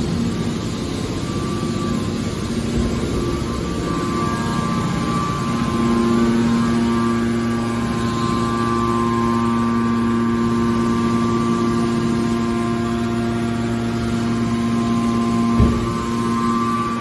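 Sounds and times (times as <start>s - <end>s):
industrial machine humming: 0.0s - 17.0s.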